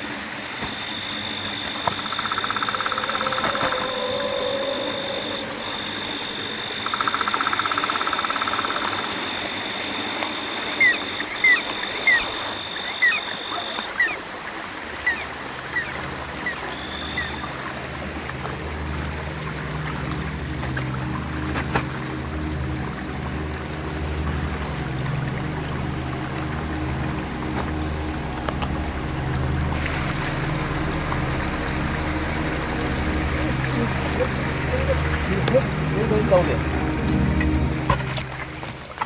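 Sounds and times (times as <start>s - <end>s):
high insect drone: 0.0s - 39.0s
trickling water: 0.0s - 39.0s.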